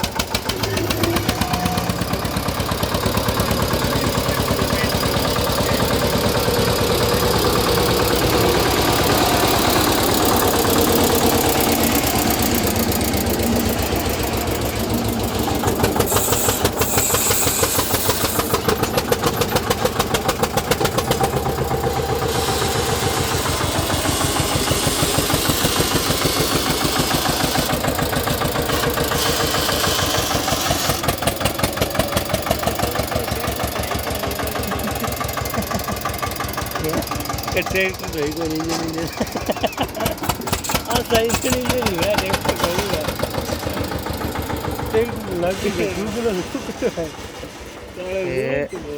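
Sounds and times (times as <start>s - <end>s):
tractor diesel engine pulsing: 0.0s - 48.9s.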